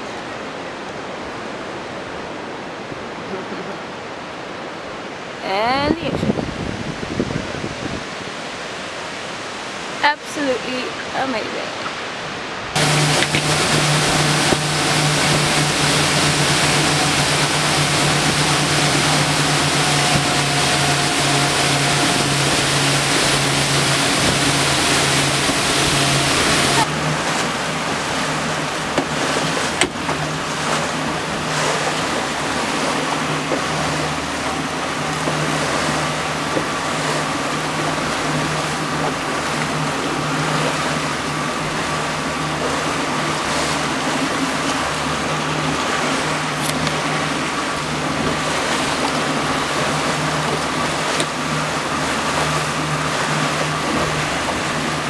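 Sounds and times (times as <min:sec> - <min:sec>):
outboard motor droning: 0:00.0 - 0:55.0
water rushing past hull: 0:00.0 - 0:55.0.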